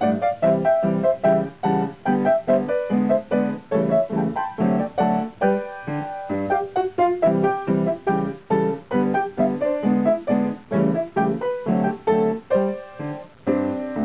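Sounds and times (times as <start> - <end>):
piano tune with steady chords: 0.0 - 14.0.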